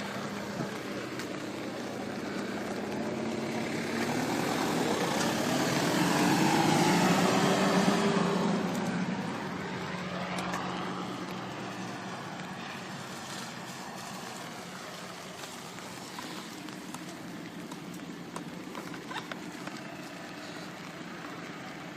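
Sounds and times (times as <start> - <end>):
outdoor background noise: 0.0 - 21.9
passing engine hum: 0.0 - 21.9.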